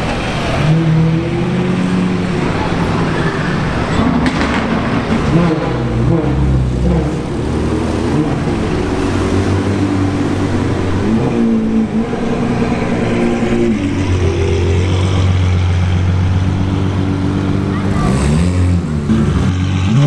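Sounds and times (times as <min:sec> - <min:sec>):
car engine running loud: 0:00.0 - 0:20.0.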